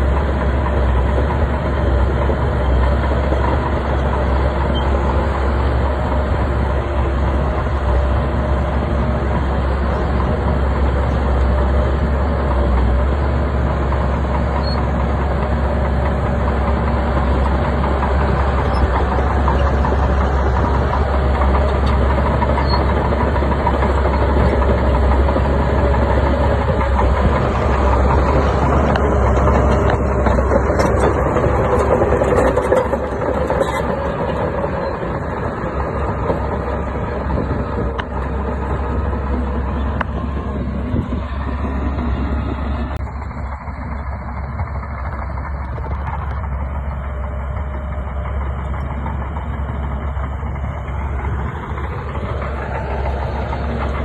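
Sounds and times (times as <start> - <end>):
bulldozer diesel engine drone: 0.0 - 54.0.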